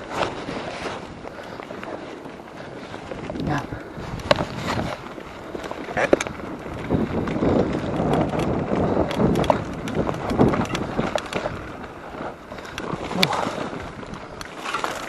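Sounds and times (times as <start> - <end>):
bike clicks and knocks: 0.0 - 15.0
bike rolling over wet leaves: 0.0 - 15.0.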